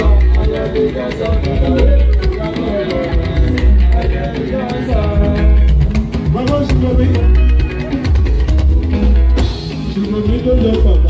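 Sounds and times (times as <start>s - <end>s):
person singing: 0.0s - 8.5s, 9.3s - 11.0s
drums: 0.0s - 11.0s
electric guitars: 0.0s - 11.0s
heavy bass line: 0.0s - 11.0s.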